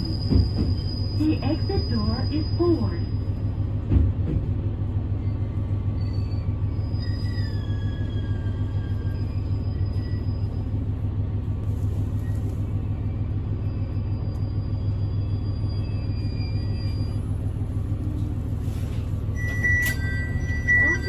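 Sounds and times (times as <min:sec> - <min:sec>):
train engine and wheels rumbling: 0:00.0 - 0:21.0.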